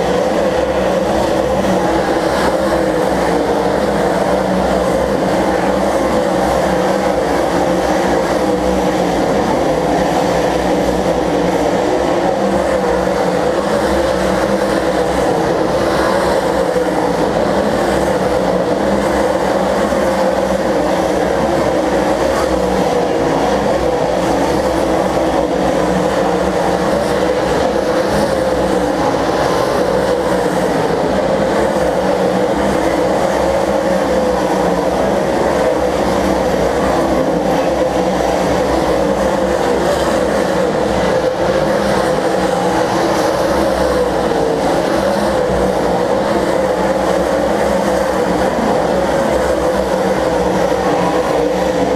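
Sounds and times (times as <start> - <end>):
stock car engines racing: 0.0 - 51.9.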